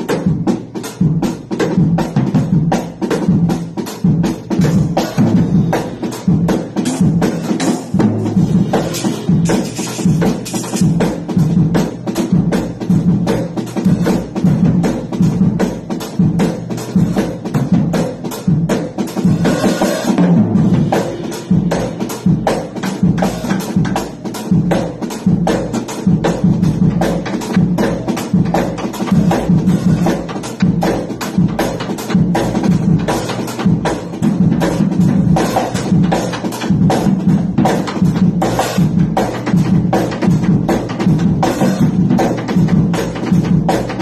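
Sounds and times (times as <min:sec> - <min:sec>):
drum kit playing: 0:00.0 - 0:44.0
hand-struck standing drum: 0:00.0 - 0:44.0.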